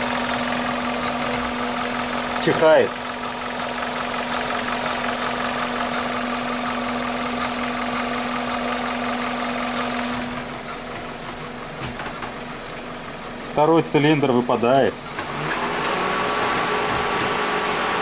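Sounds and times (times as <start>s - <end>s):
car engine idling with misfire: 0.0s - 18.0s.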